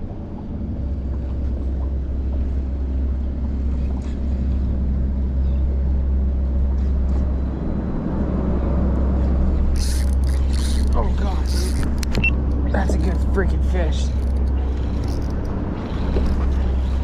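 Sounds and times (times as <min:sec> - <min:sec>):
boat engine idling: 0:00.0 - 0:17.0
water noise: 0:00.0 - 0:17.0
wind: 0:00.0 - 0:17.0.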